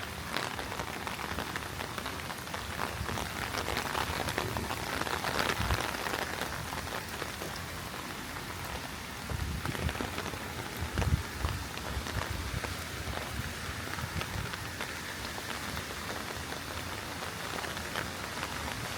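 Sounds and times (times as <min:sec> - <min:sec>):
heavy rain falling: 0:00.0 - 0:18.9.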